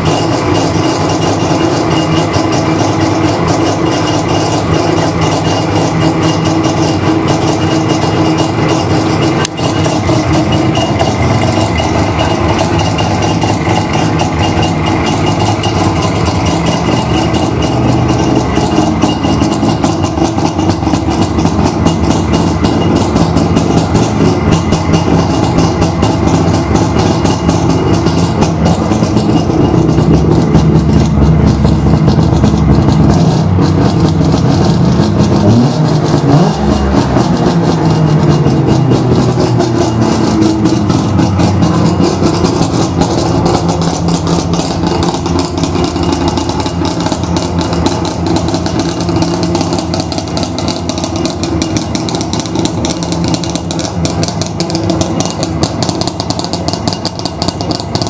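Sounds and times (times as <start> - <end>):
two-stroke engine idling: 0.0 - 58.0.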